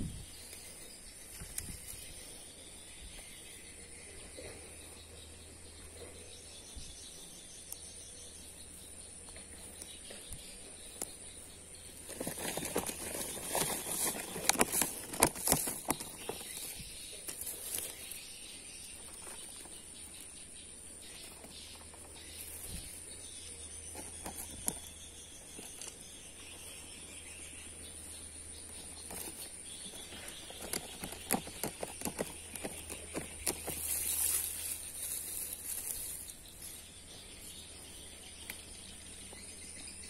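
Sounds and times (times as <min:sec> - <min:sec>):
grass and fronds rustling: 0:00.0 - 0:03.8, 0:10.4 - 0:39.7.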